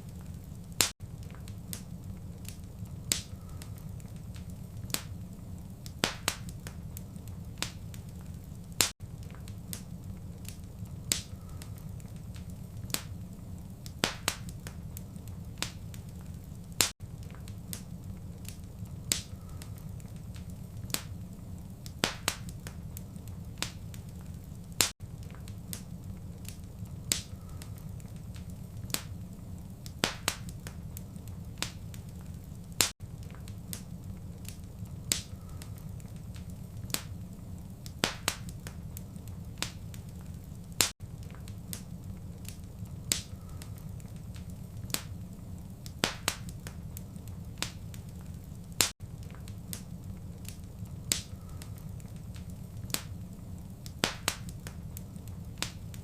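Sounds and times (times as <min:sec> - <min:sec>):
low rumble of burning: 0:00.0 - 0:56.0
wood fire crackling: 0:00.0 - 0:56.0.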